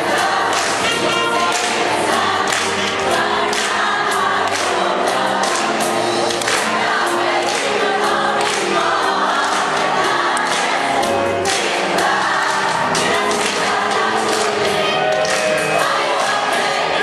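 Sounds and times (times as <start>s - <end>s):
band accompaniment: 0.0s - 17.0s
gospel choir singing: 0.0s - 17.0s.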